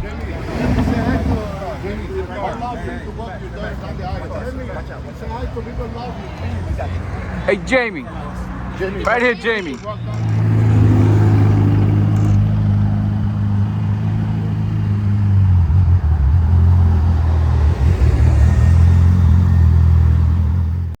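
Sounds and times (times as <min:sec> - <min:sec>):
sports car engine rumbling: 0:00.0 - 0:21.0.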